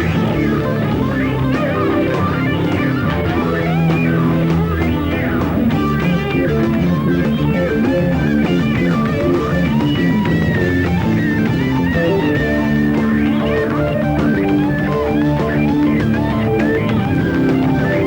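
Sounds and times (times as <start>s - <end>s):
electric lead guitar: 0.0s - 18.0s
rock band playing live: 0.0s - 18.0s.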